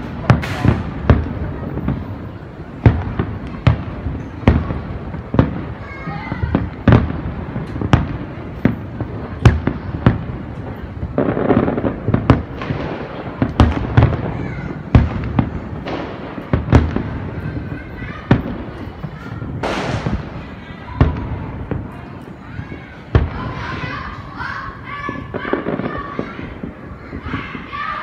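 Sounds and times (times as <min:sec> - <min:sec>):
fireworks bursting with bangs: 0:00.0 - 0:28.0
fireworks crackling: 0:00.0 - 0:28.0.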